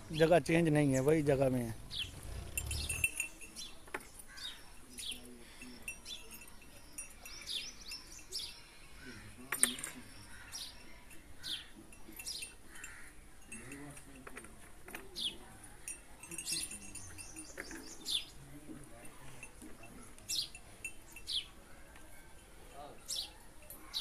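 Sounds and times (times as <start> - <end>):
small birds chirping: 0.0 - 13.8, 15.0 - 24.0.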